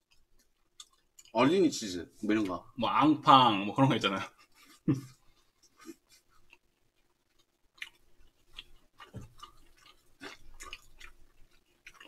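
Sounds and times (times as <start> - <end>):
faint close-up chewing: 0.0 - 2.8, 4.3 - 12.0.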